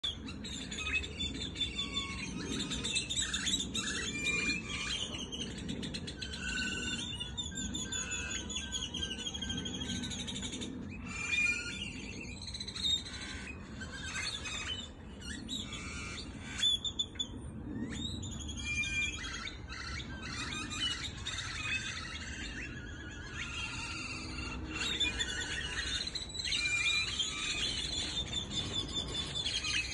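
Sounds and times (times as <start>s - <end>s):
birds chirping: 0.0s - 29.9s
low background rumble: 0.0s - 29.9s.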